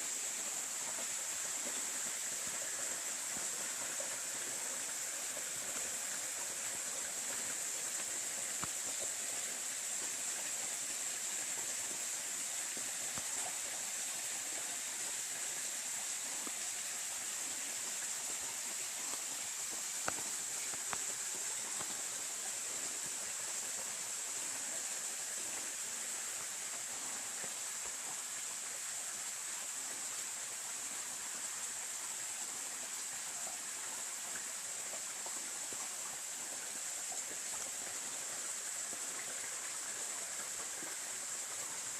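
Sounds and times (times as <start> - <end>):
stream water flowing: 0.0 - 41.9.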